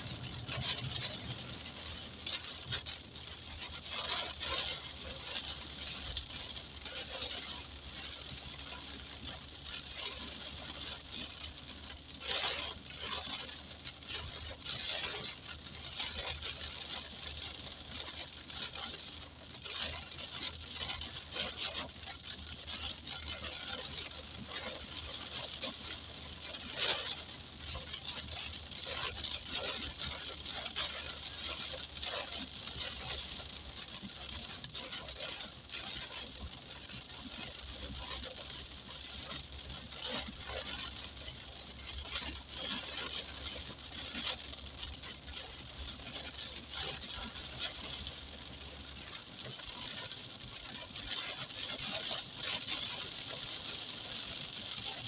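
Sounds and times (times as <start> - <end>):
car driving on wet road: 0.0 - 55.0
heavy rain on car roof: 0.0 - 55.0.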